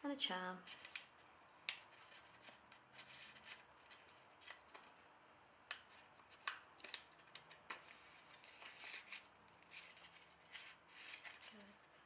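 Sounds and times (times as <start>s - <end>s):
paper rustling: 0.7s - 5.0s, 5.9s - 12.0s.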